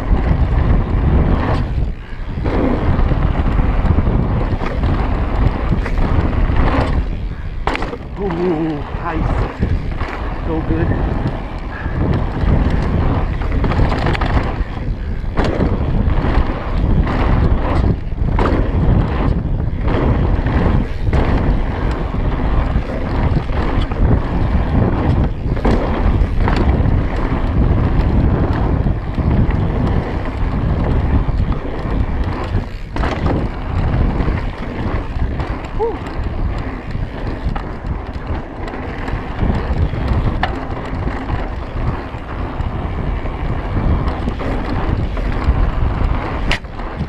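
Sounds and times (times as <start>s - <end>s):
bike rattling and knocking: 0.0s - 47.0s
tyres rumbling on dirt: 0.0s - 47.0s
wind rushing over microphone: 0.0s - 47.0s.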